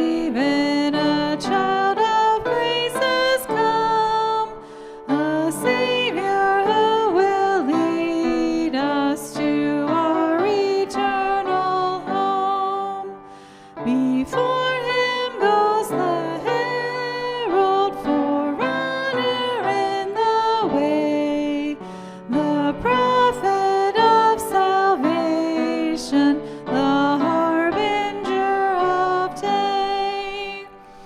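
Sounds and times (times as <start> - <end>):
hymn music with singing voices: 0.0 - 31.0.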